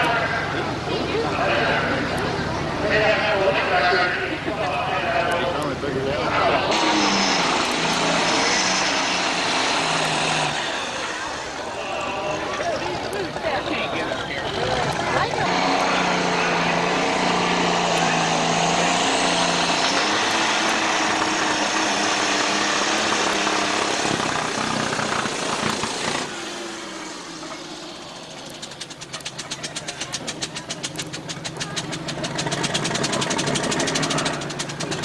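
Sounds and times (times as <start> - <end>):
tractor engine running under load: 0.0 - 35.0.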